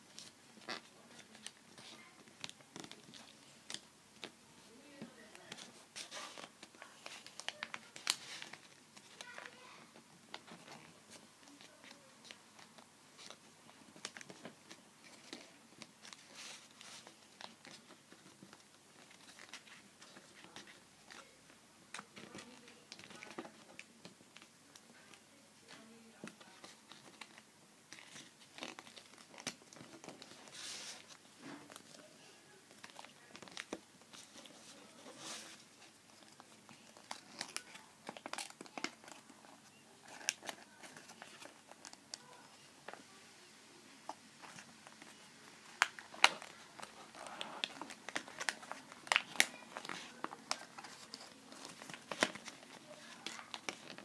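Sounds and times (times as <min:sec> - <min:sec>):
paper crinkling and rustling: 0:00.0 - 0:43.2, 0:44.0 - 0:54.0.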